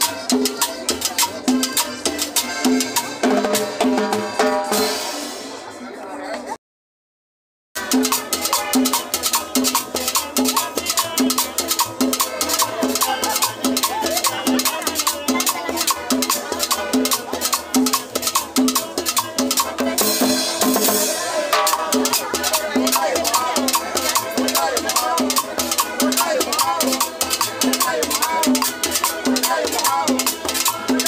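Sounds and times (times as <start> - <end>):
quick percussion beat: 0.0 - 5.5, 7.8 - 31.0
accordion: 0.0 - 6.4, 7.8 - 31.0.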